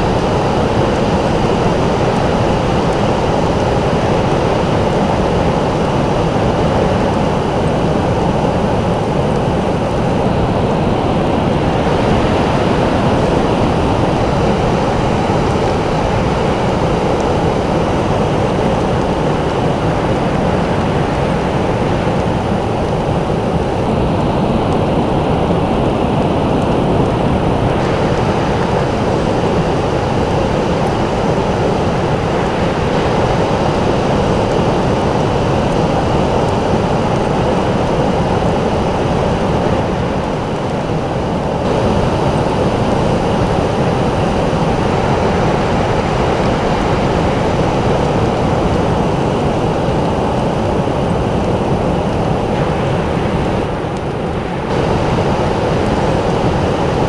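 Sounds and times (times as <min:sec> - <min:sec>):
ocean surf rushing: 0:00.0 - 0:57.0.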